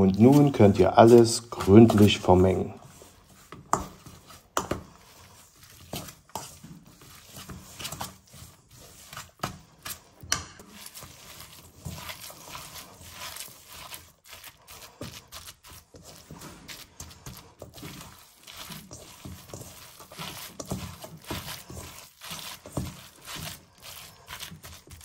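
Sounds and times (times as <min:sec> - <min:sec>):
fork scraping a metal bowl: 0:00.0 - 0:25.0.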